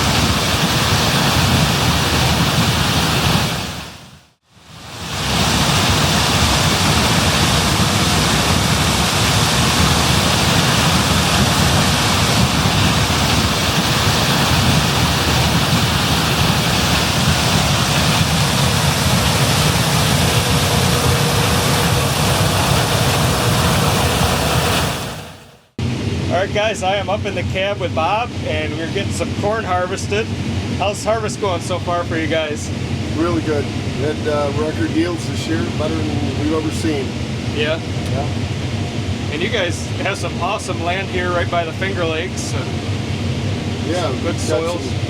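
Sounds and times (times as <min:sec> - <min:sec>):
combine harvester drone: 0:00.0 - 0:45.0
faint steady whine: 0:04.3 - 0:45.0.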